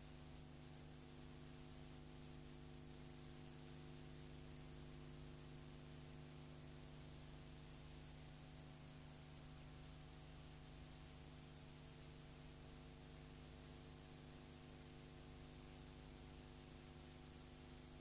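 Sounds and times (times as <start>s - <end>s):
faint electrical hum: 0.0s - 18.0s
low hiss: 0.0s - 18.0s.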